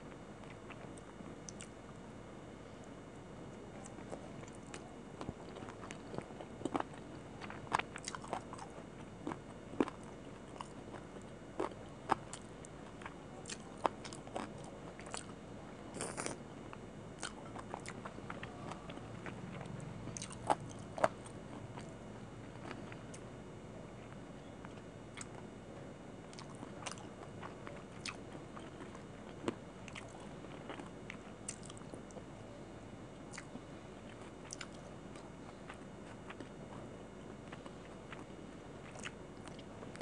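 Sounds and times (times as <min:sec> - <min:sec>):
chewing chicken on the bone: 0:03.8 - 0:23.2, 0:26.3 - 0:32.3, 0:33.3 - 0:40.0.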